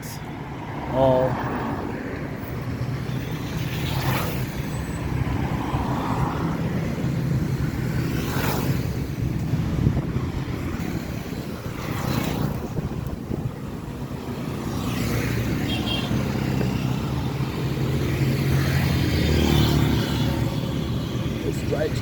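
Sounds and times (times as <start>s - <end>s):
cars swishing past: 0.0s - 22.0s
traffic engine rumble: 0.0s - 22.0s.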